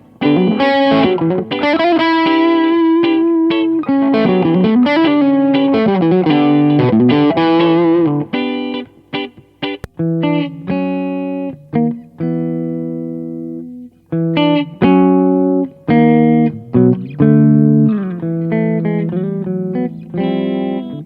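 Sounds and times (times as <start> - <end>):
electric guitar lead line: 0.0 - 21.0.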